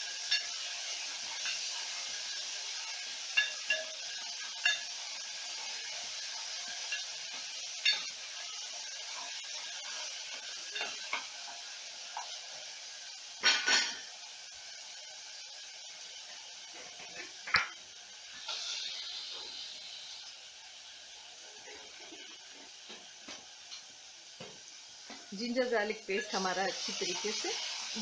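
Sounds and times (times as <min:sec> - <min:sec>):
spices sizzling in hot oil: 0:00.0 - 0:28.0.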